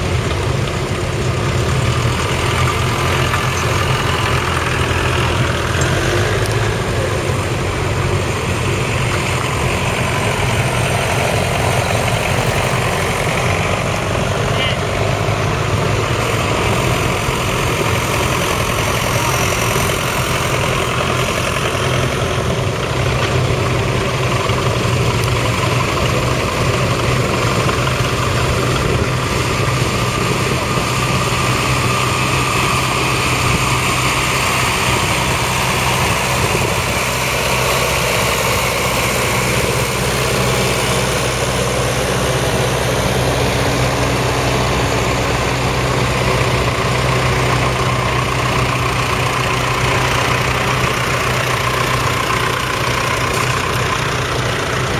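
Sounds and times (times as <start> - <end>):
tractor engines idling: 0.0 - 54.9.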